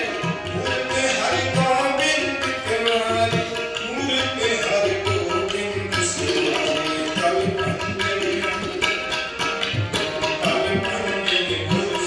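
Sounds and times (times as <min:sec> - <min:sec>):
harmonium playing held notes: 0:00.0 - 0:12.0
tabla drumming: 0:00.0 - 0:12.0.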